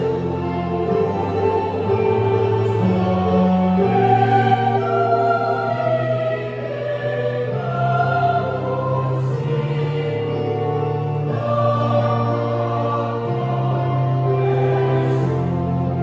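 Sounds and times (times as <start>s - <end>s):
youth choir singing: 0.0s - 16.0s.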